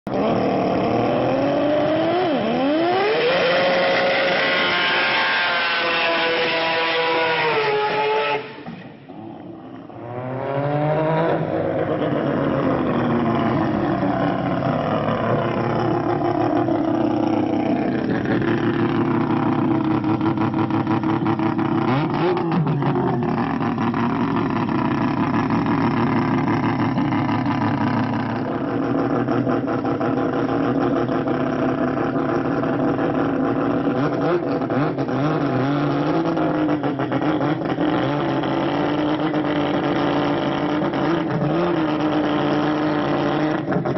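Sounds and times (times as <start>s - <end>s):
rotary engine idling and revving: 0.0s - 43.9s.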